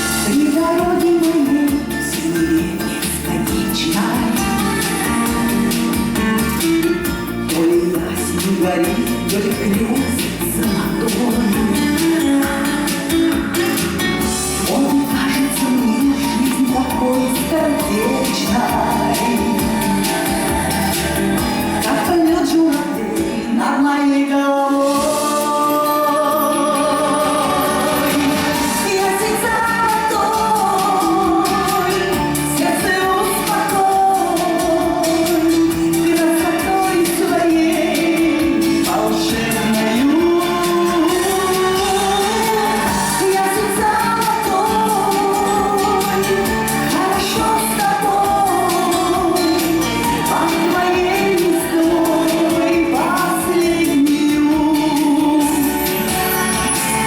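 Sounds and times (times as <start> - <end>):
instrumental accompaniment: 0.0 - 23.8, 24.8 - 57.0
person singing: 0.0 - 57.0.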